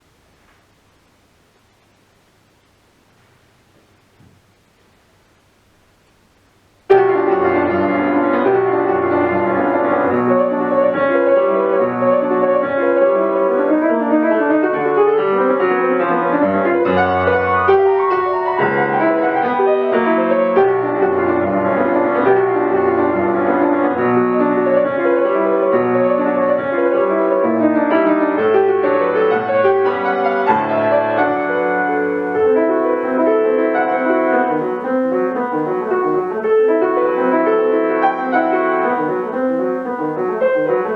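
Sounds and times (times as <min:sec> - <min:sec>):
solo classical piano: 0:06.4 - 0:40.9.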